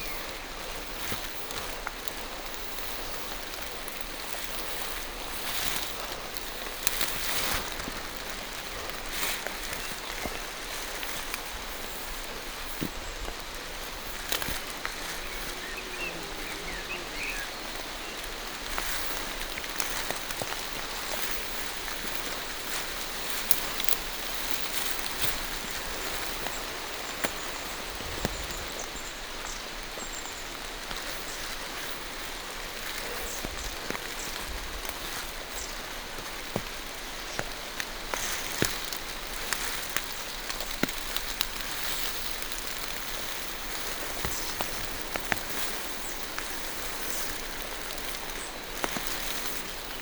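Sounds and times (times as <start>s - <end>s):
rain on foliage: 0.0s - 50.0s.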